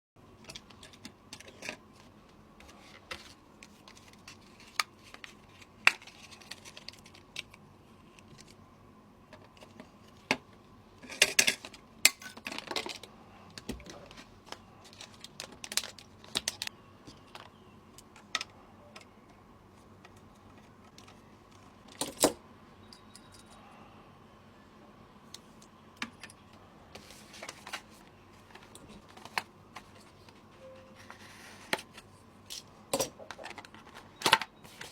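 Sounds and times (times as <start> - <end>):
faint steady hum: 0.2 - 34.9.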